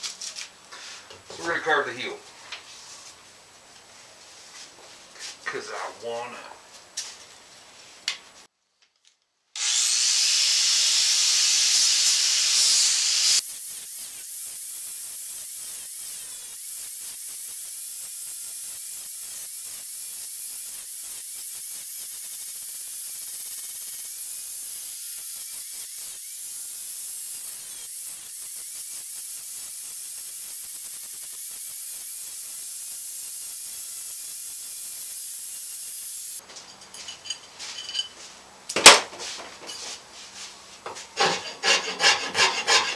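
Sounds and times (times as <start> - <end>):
steady hissing noise: 0.0 - 8.5, 12.8 - 42.9.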